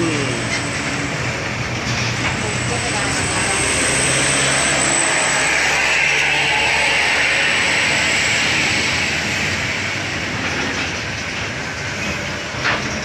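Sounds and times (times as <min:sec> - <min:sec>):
truck diesel engine labouring: 0:00.0 - 0:13.0.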